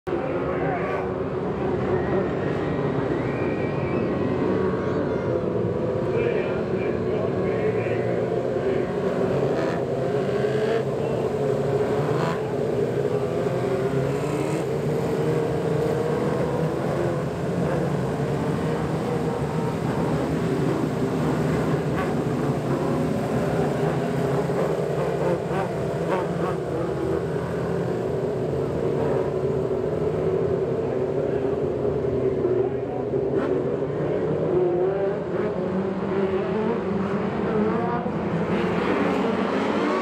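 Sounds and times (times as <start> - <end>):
race car engines running: 0.1 - 40.0.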